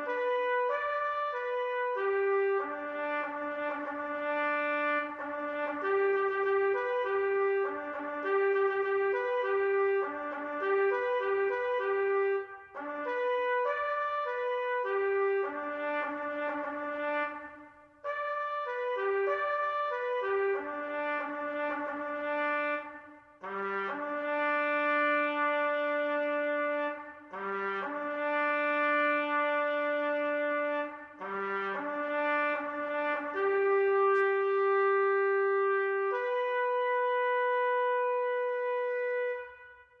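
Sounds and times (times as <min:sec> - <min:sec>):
solo trumpet bugle call: 0:00.0 - 0:40.0.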